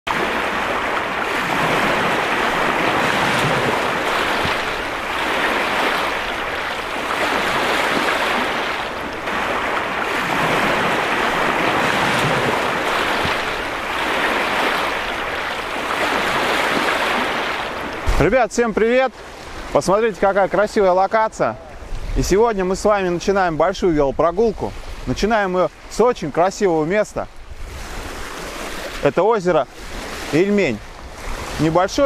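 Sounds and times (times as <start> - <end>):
small waves breaking on shore: 0.1 - 32.0.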